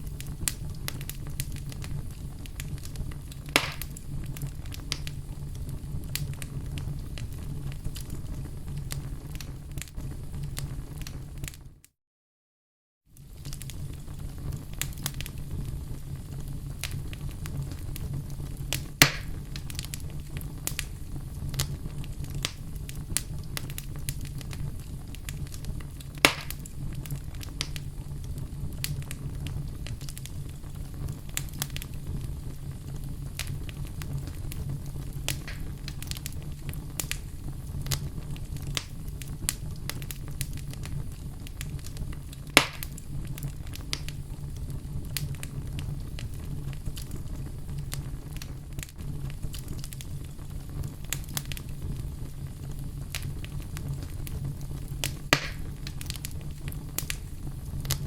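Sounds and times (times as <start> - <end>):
sharp fire pops: 0.0 - 11.6, 13.2 - 58.0
wood fire crackling: 0.0 - 11.8, 13.1 - 58.0
low fire rumble: 0.0 - 11.9, 13.1 - 58.0.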